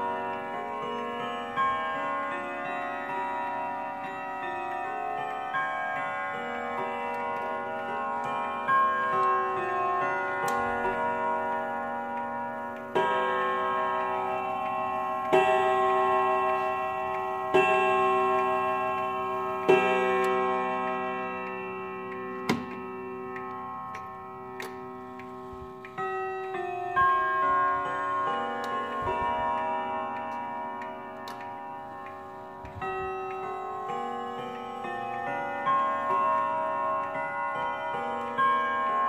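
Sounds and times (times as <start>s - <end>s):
clock chime rods ringing: 0.0s - 39.0s
clock movement ticking: 0.0s - 39.0s.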